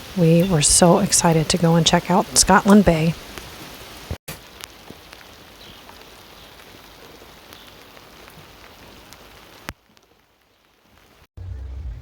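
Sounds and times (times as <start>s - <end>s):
raindrop ticks: 0.0s - 11.3s
steady rain hiss: 0.0s - 11.3s.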